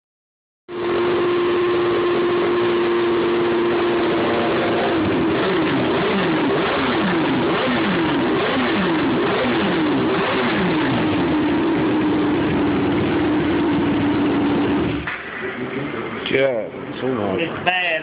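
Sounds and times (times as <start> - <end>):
motorcycle engine revving: 0.7 - 16.2.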